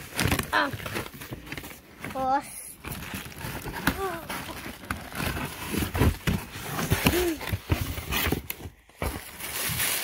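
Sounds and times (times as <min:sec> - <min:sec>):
cardboard and paper rustling: 0:00.0 - 0:10.0.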